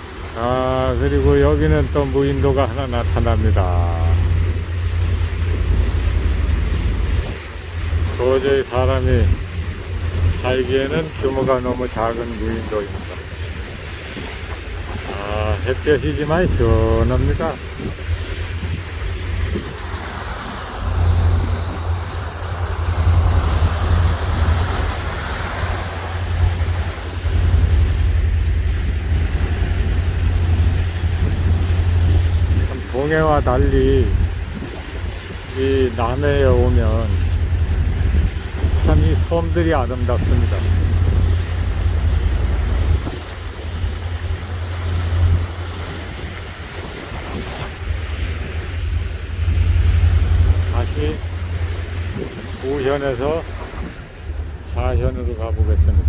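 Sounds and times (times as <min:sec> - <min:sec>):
boat engine rushing: 0:00.0 - 0:56.0
water rushing alongside boat: 0:00.0 - 0:56.0
wind buffeting microphone: 0:00.1 - 0:56.0.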